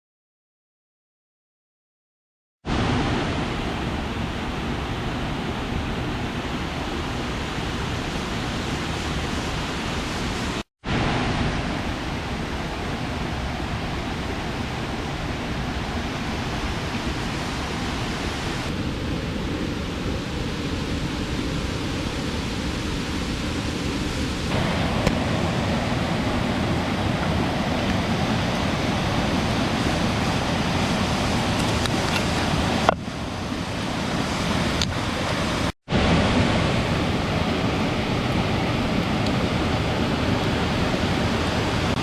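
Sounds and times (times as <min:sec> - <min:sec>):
rushing water: 0:02.7 - 0:42.0.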